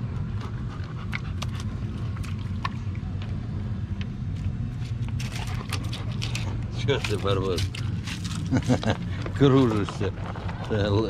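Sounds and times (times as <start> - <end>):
paws tapping on pebbles: 0.0 - 3.4, 4.0 - 11.0
steady low rumble: 0.0 - 11.0.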